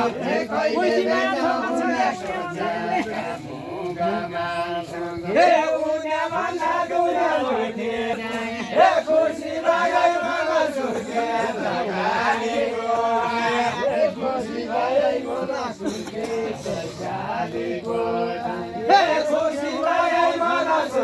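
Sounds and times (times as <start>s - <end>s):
men singing folk song together: 0.0s - 21.0s.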